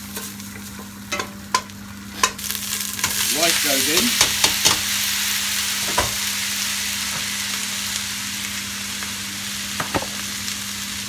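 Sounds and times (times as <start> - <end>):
ghee sizzling in pot: 0.0 - 11.0.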